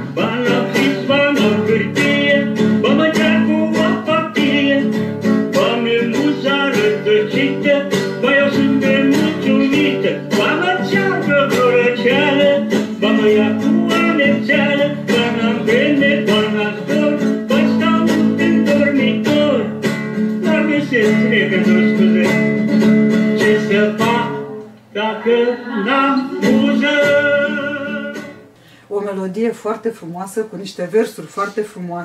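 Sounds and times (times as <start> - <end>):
man singing: 0.0 - 28.5
strummed acoustic guitar: 0.0 - 28.8.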